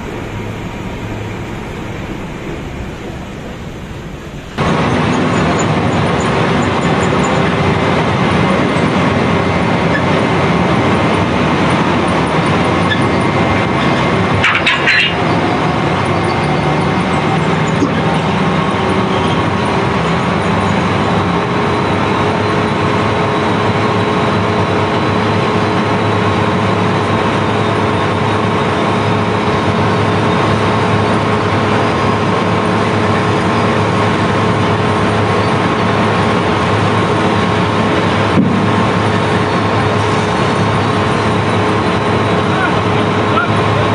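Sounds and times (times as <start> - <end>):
unloading machinery rumble and hiss: 0.0 - 43.9.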